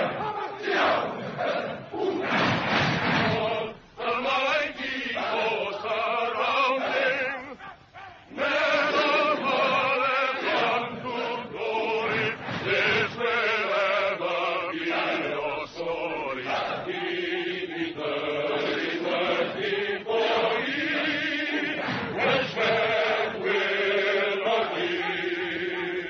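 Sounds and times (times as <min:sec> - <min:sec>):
male choir singing: 0:00.0 - 0:26.0.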